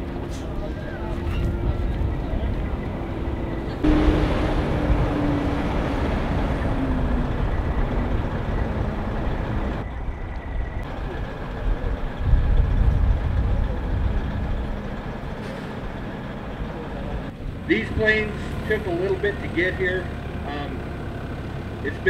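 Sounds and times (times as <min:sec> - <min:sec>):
heavy truck engine running: 0:00.0 - 0:22.0.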